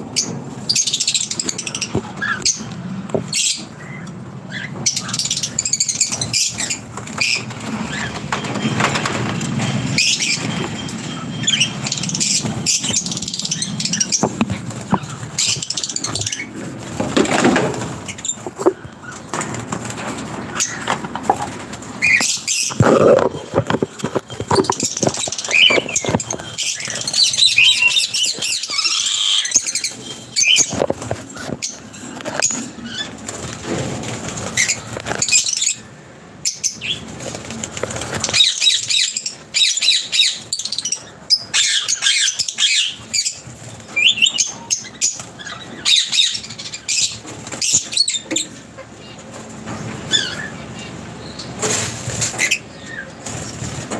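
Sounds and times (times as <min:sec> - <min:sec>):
small birds chirping: 0:00.0 - 0:33.5, 0:34.3 - 0:51.6.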